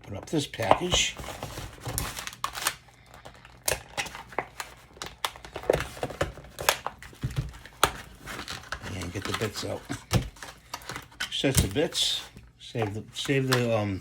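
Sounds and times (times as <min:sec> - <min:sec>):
packaging crinkling and tearing: 0:00.4 - 0:14.0.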